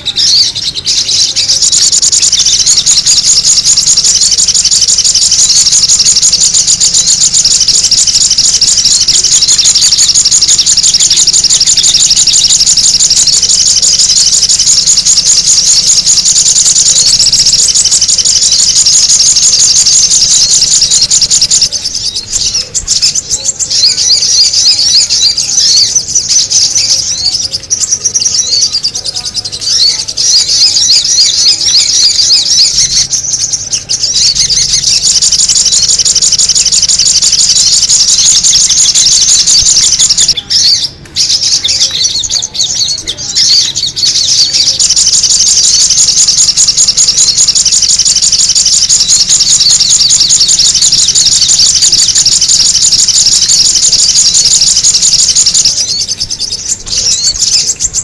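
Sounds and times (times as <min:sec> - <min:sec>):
high-pitched bird chattering: 0:00.0 - 0:58.0.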